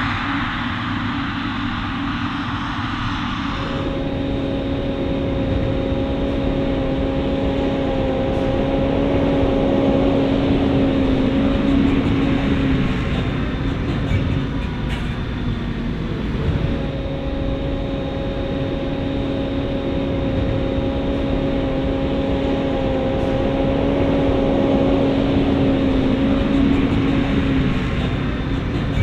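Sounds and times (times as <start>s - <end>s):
heavy diesel machinery drone: 0.0s - 29.0s.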